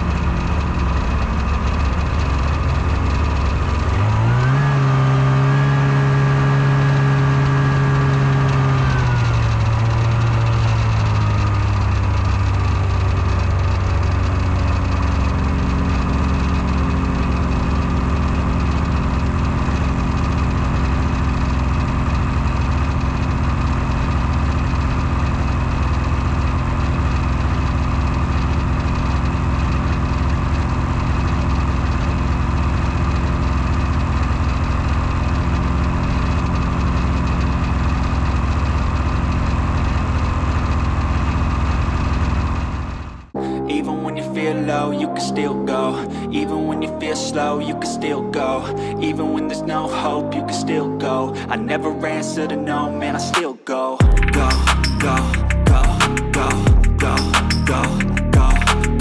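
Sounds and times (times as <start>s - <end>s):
snowmobile engine: 0.0s - 43.4s, 54.0s - 59.0s.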